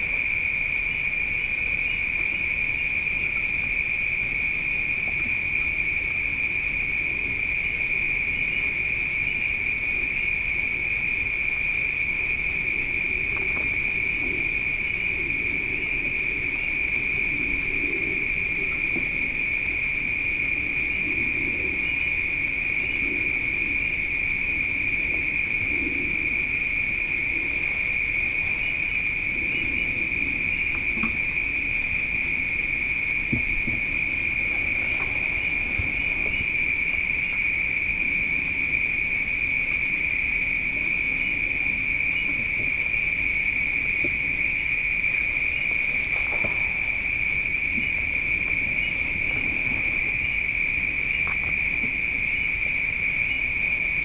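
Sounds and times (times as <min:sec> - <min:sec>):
night insects chirring: 0:00.0 - 0:54.0.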